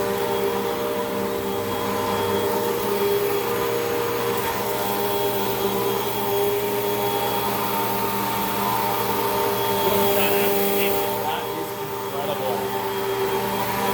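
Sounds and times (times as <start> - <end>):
vacuum cleaner running over carpet: 0.0 - 13.9.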